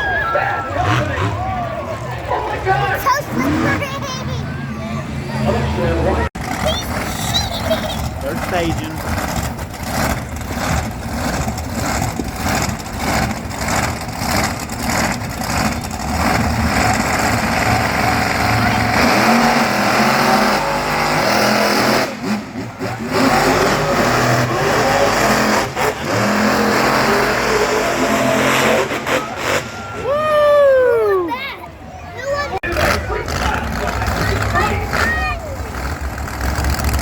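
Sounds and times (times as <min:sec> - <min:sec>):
monster truck engines revving: 0:00.0 - 0:37.0.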